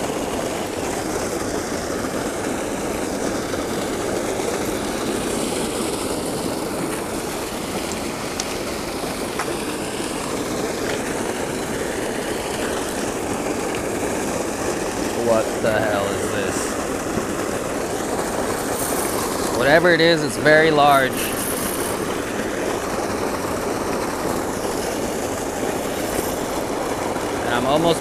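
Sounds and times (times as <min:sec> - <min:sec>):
water pouring into a pool: 0:00.0 - 0:28.0.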